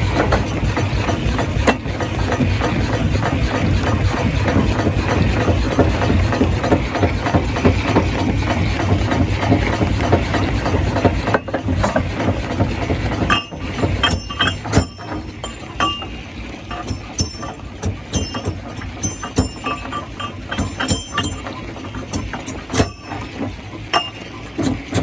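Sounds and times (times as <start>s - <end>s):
sharp clicks and knocks: 0.0s - 25.0s
stone crusher grinding rock: 0.0s - 25.0s.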